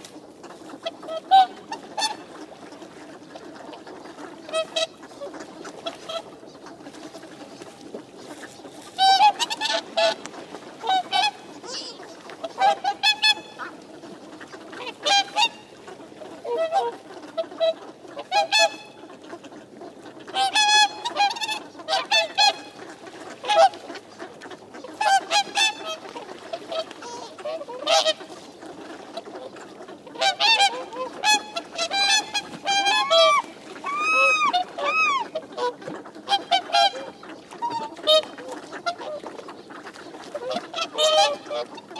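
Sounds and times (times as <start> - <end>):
swans honking: 0.0 - 41.9.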